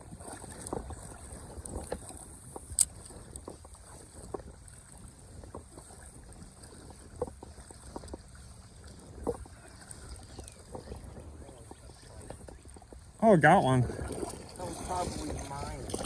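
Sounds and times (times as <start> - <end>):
river water lapping and splashing: 0.0 - 16.0.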